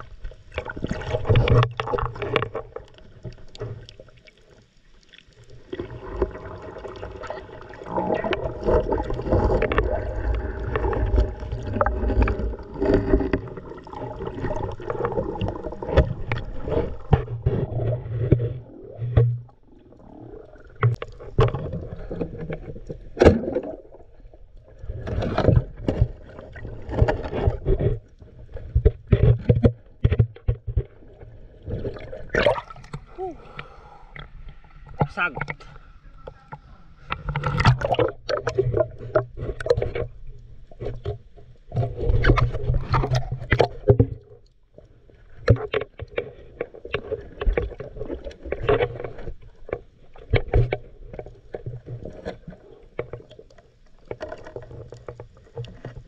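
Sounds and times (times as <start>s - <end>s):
low underwater rumble: 0.0s - 56.0s
underwater water sloshing: 0.0s - 56.0s.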